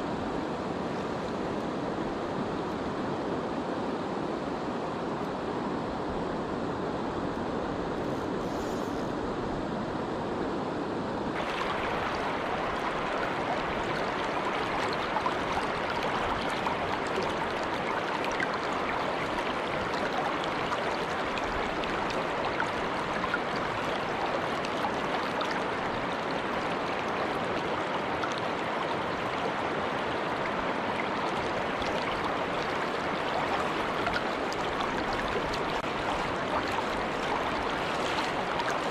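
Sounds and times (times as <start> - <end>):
river water flowing: 0.0 - 8.1, 11.0 - 38.9.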